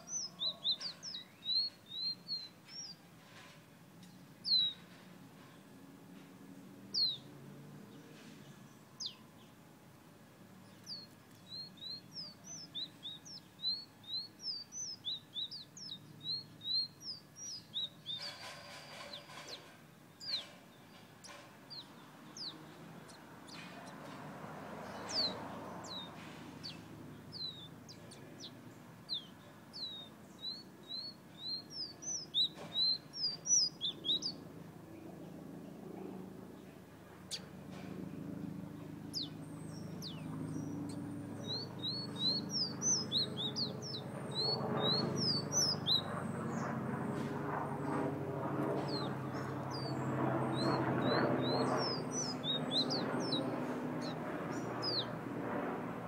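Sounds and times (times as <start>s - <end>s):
background hum: 0.0s - 56.0s.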